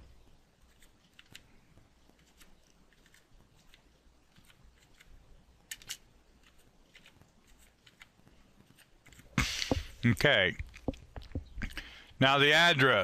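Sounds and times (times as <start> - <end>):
faint keyboard typing: 0.6 - 11.9.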